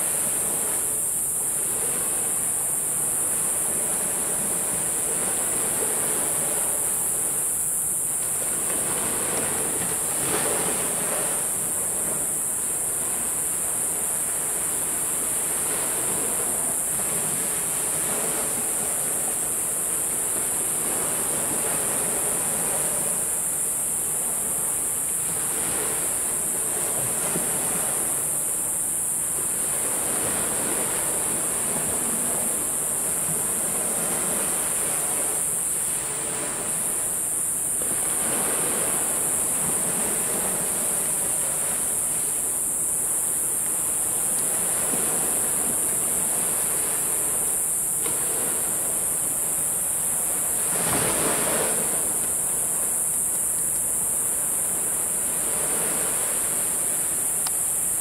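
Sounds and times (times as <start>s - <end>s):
sea waves washing onto shore: 0.0s - 58.0s
steady high-pitched hiss: 0.0s - 58.0s.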